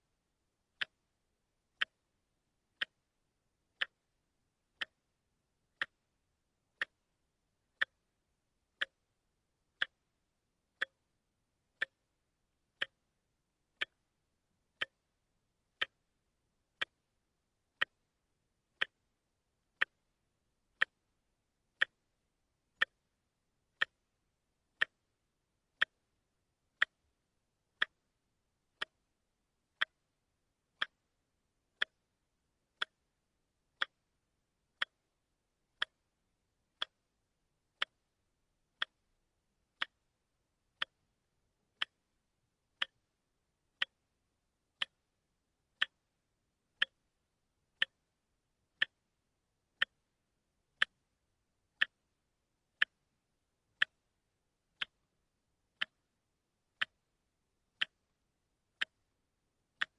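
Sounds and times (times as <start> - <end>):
watch ticking: 0.7 - 5.1, 5.7 - 44.1, 44.7 - 47.2, 47.8 - 49.1, 49.8 - 54.1, 54.8 - 55.1, 55.7 - 59.9.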